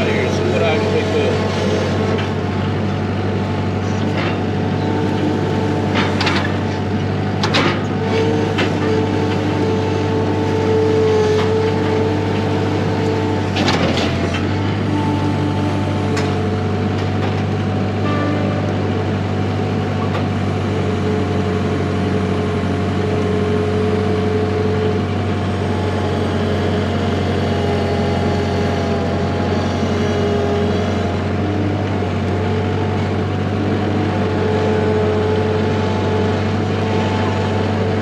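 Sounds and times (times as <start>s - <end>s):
engine humming steadily: 0.0s - 38.0s.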